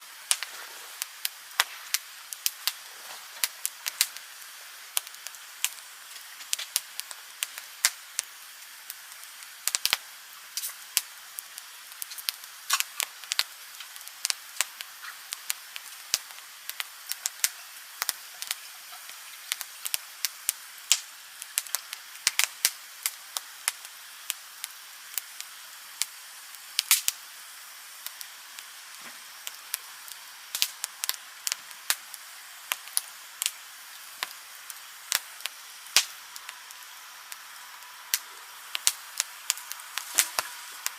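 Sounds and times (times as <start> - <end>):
burning wood crackling and popping: 0.0 - 40.9
hiss of campfire flames: 0.0 - 40.9.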